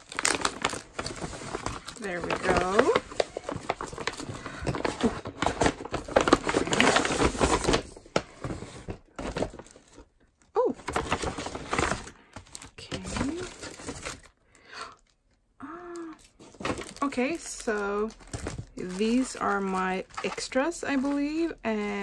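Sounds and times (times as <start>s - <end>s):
plastic bag crinkling: 0.0s - 10.0s, 10.6s - 14.4s, 15.9s - 22.0s.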